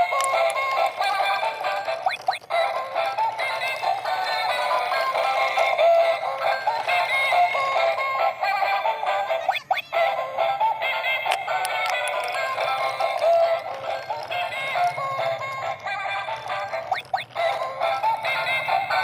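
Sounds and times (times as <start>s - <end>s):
electronic toy tune: 0.0s - 19.0s.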